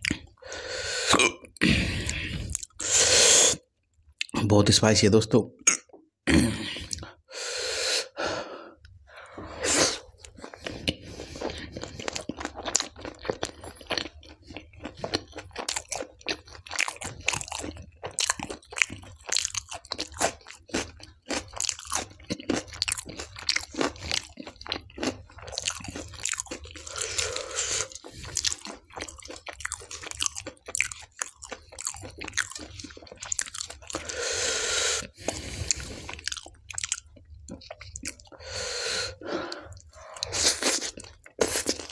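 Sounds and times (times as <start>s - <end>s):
man chewing crunchy bread: 0.0s - 0.5s, 1.1s - 3.1s, 8.8s - 41.9s.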